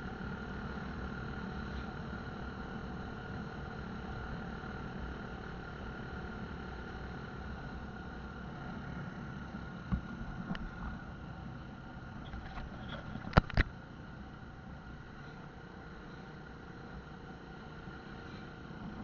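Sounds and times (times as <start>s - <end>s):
motorcycle engine hum: 0.0s - 19.0s.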